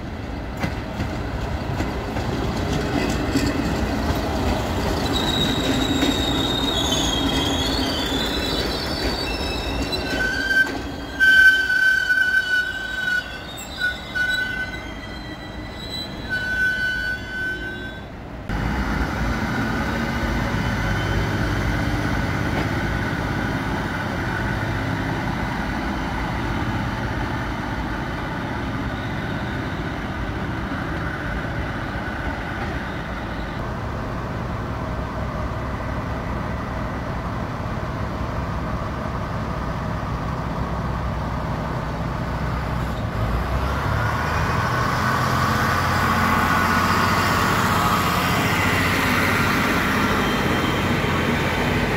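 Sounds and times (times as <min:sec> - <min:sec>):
train running: 0:00.0 - 0:51.9.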